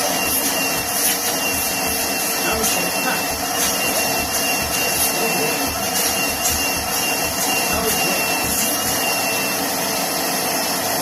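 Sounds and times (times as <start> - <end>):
high whine: 0.0 - 10.1
vacuum cleaner motor running: 0.0 - 11.0.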